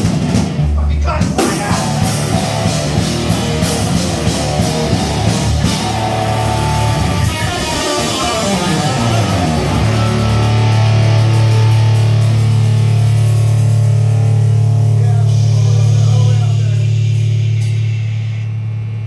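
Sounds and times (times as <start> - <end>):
drum kit: 0.0 - 19.0
electric guitar through amplifier: 1.4 - 19.0.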